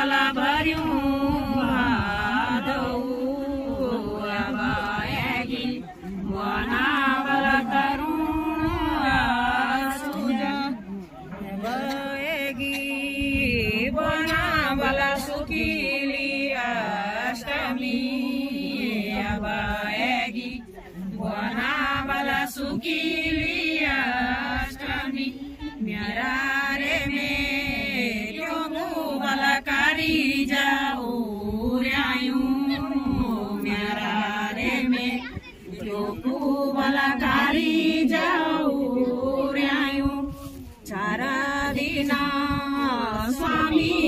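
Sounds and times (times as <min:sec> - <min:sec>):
women singing a folk song: 0:00.0 - 0:44.0.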